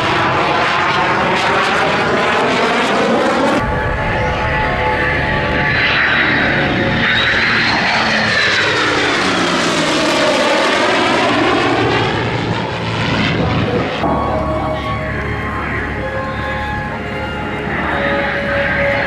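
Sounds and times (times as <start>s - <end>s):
airplane flying past: 0.0s - 19.0s.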